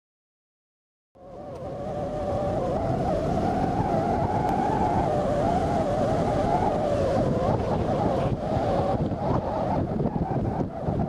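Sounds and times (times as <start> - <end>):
road and wind noise in car: 1.2 - 11.0
wavering whistle-like tone: 1.2 - 11.0.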